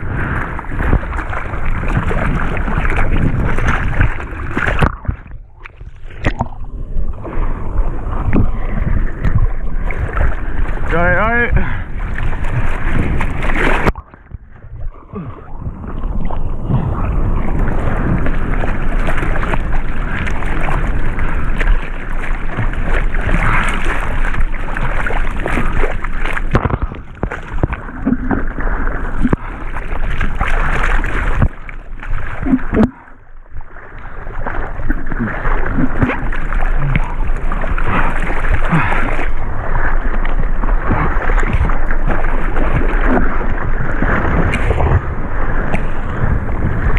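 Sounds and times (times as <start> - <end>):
water splashing and rushing: 0.0 - 46.9.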